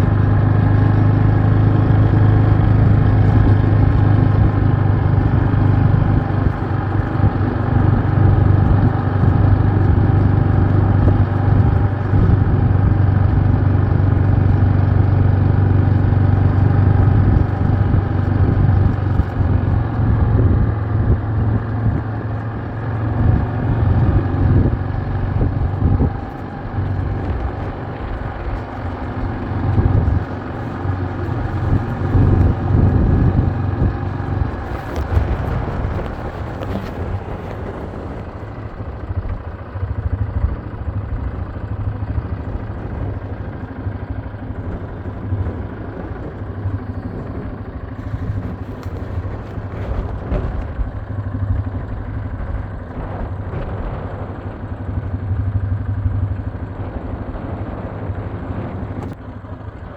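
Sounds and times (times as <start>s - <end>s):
engine humming steadily: 0.0s - 59.9s.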